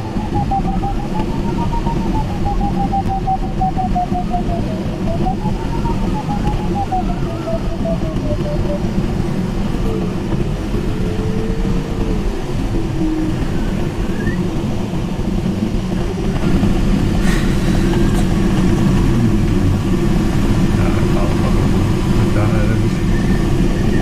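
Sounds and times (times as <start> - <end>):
airflow rushing over glider: 0.0 - 24.0.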